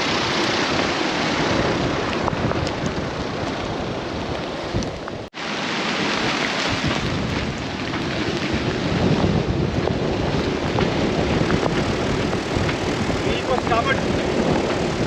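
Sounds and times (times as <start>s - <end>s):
wind buffeting microphone: 0.0s - 5.3s, 6.0s - 15.0s.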